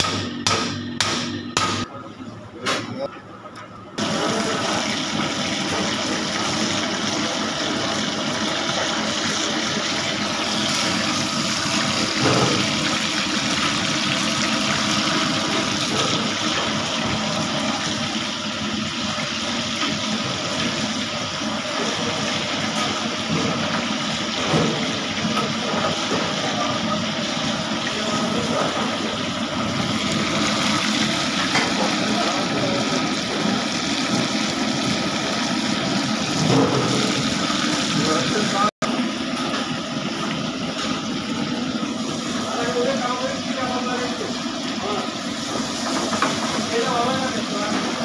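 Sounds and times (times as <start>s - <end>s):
fish sizzling in oil: 4.0s - 48.0s.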